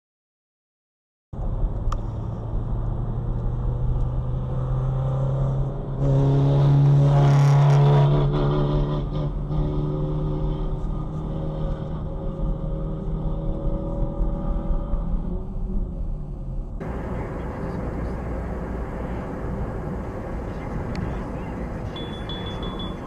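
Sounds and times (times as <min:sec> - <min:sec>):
car engine: 0:01.4 - 0:23.0
road noise: 0:01.4 - 0:23.0.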